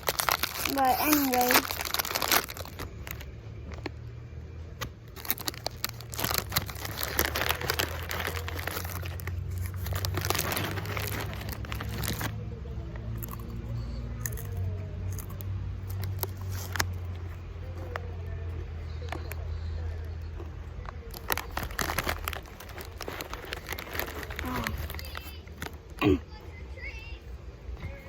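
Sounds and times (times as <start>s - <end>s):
dry plastic crinkling: 0.0s - 26.0s.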